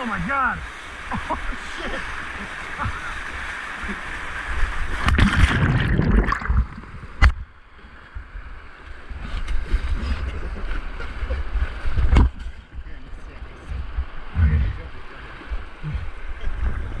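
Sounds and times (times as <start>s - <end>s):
whitewater rushing and splashing: 0.0s - 17.0s.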